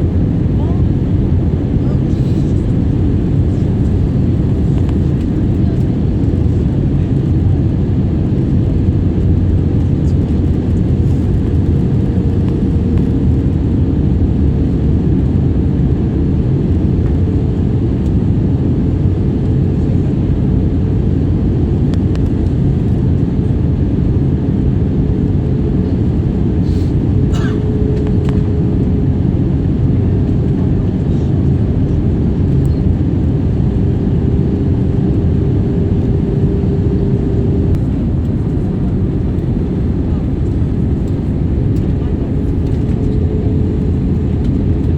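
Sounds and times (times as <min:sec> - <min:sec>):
jet airliner rumble: 0:00.0 - 0:44.9.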